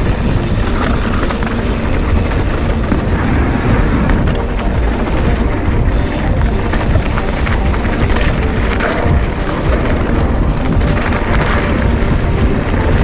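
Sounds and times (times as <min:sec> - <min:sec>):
bike rattling and clicking: 0:00.0 - 0:13.0
tyres rumbling over dirt: 0:00.0 - 0:13.0
wind buffeting microphone: 0:00.0 - 0:13.0.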